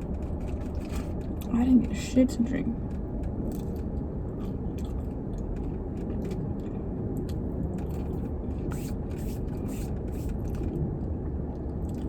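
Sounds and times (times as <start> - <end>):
car air conditioning blowing: 0.0 - 12.0.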